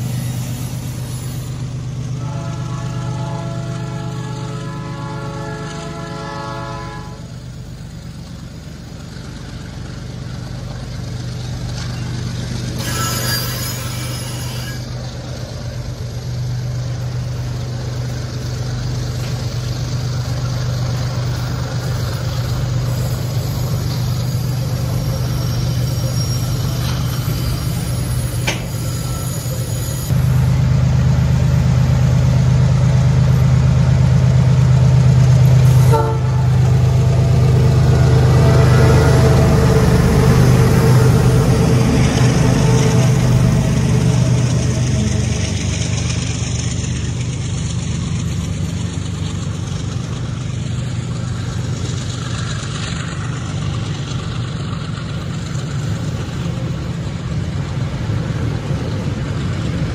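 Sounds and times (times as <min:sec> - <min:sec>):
diesel locomotive engine drone: 0:00.0 - 0:59.9
freight train wheels rumbling: 0:00.0 - 0:59.9.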